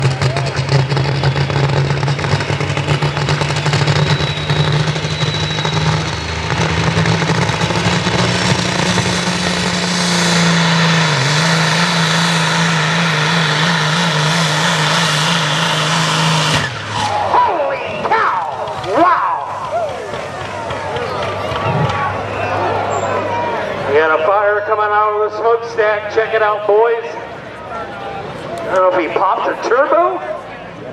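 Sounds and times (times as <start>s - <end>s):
diesel truck engine revving: 0.0s - 30.9s.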